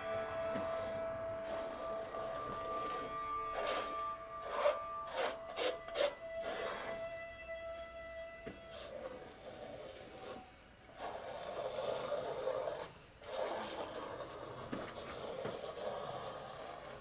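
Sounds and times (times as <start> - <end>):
painting knife scraping paint: 0.8 - 7.1, 8.7 - 17.0.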